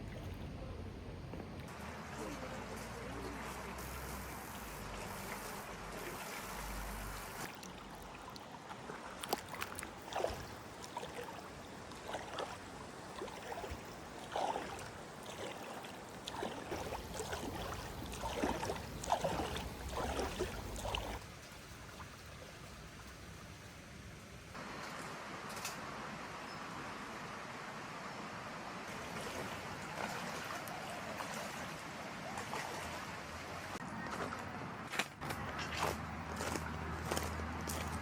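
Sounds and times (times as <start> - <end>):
stream running: 0.0 - 38.0.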